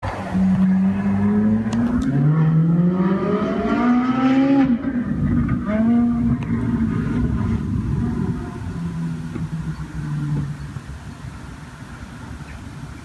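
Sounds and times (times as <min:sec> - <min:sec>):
sports car engine accelerating: 0:00.2 - 0:10.9.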